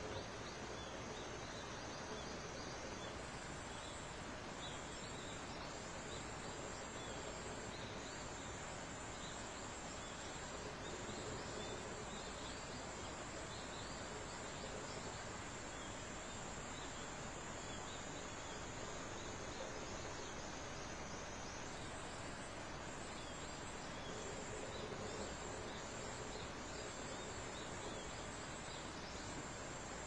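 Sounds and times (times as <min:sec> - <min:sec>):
soft background hiss: 0:00.0 - 0:30.0.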